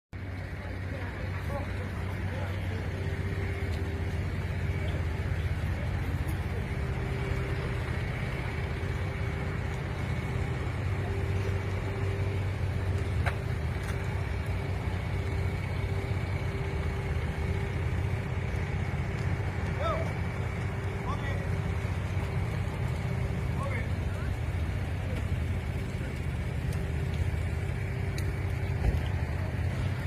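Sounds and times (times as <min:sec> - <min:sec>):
engine droning: 0:00.2 - 0:30.0
faint steady whine: 0:00.2 - 0:30.0.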